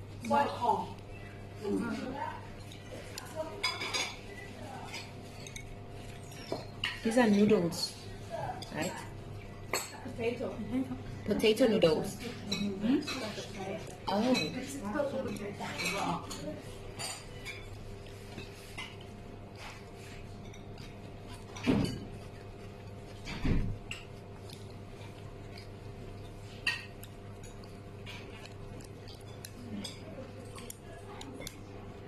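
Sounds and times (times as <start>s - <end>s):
dishes and chopsticks clinking: 2.4s - 10.1s, 11.4s - 32.0s.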